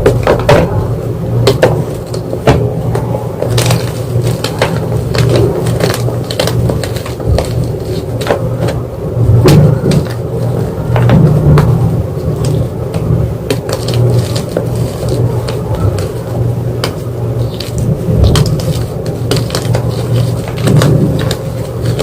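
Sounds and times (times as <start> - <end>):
steady low rumble: 0.0 - 22.0
chalk crunching and crackling: 1.4 - 22.0.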